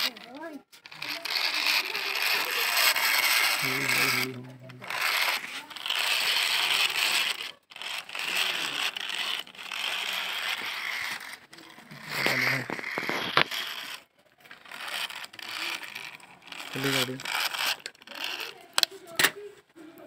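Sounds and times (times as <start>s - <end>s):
plastic wheels rolling over dirt: 0.0s - 19.4s.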